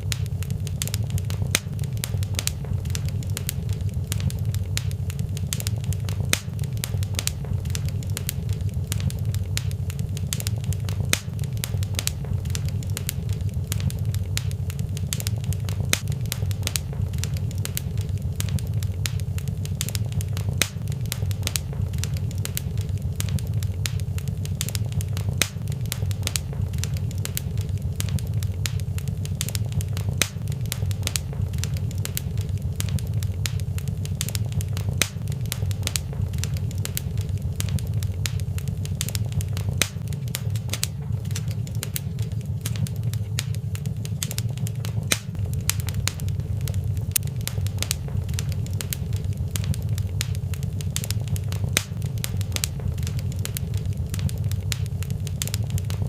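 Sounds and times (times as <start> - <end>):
fire crackling and popping: 0.0 - 56.0
low fire rumble: 0.0 - 56.0.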